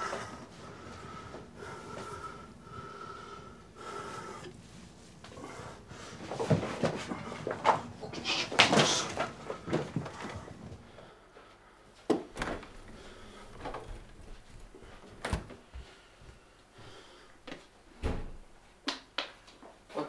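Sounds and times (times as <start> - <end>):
footsteps in a room: 0.0 - 3.0, 3.6 - 20.0.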